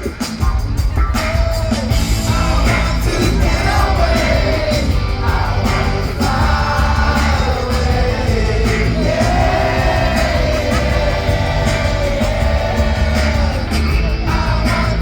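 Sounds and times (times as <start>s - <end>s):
live rock band playing: 0.0s - 15.0s
steady drum beat: 0.0s - 15.0s.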